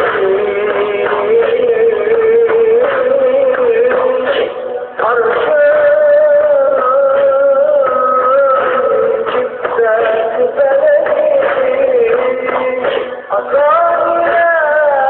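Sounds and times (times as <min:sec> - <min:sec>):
man singing ornamented melody: 0:00.0 - 0:15.0
musical accompaniment: 0:00.0 - 0:15.0.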